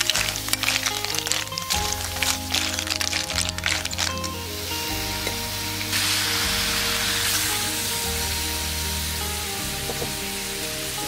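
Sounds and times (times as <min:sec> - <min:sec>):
background music with bass line: 0:00.0 - 0:11.0
snails sizzling in a wok: 0:00.0 - 0:11.0.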